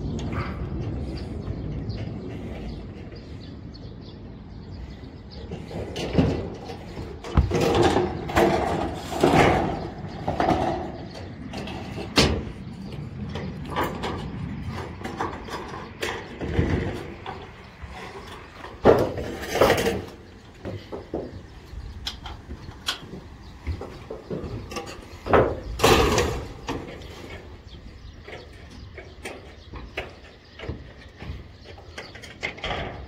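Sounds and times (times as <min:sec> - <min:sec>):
metal knocking and clanking: 0:05.5 - 0:33.0.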